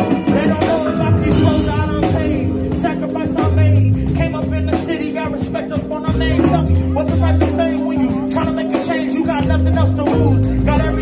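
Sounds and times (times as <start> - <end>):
deep bass notes: 0.0 - 11.0
live band playing hip hop: 0.0 - 11.0
person singing: 0.0 - 11.0.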